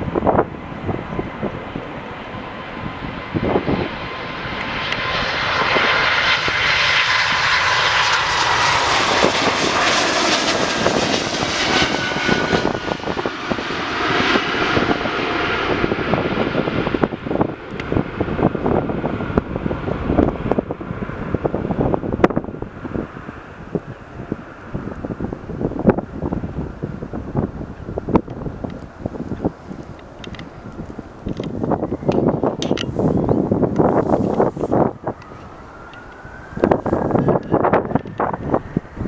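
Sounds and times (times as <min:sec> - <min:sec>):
jet engines roaring: 0:00.0 - 0:39.0
wind buffeting microphone: 0:00.0 - 0:39.0.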